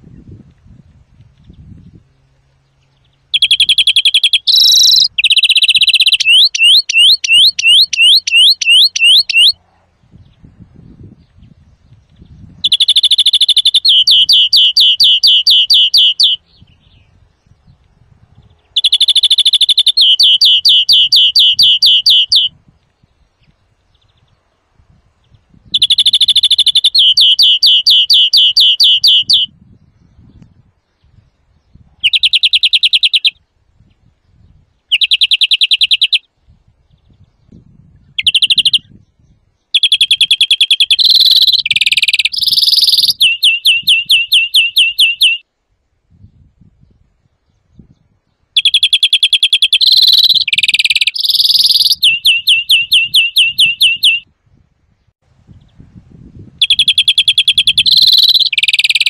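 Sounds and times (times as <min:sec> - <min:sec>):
bird singing fast trills: 0:01.4 - 0:24.5, 0:25.2 - 0:45.5, 0:46.3 - 0:55.8, 0:56.6 - 0:59.0.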